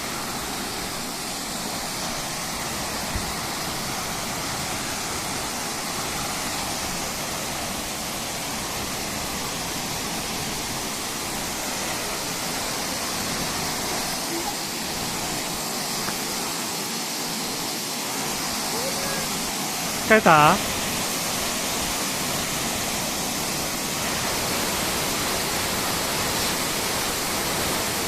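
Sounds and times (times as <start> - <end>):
waterfall running: 0.0 - 28.0.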